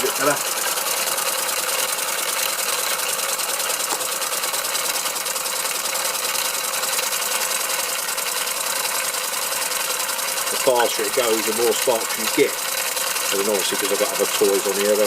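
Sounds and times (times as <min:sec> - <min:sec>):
model engine running: 0:00.0 - 0:15.0.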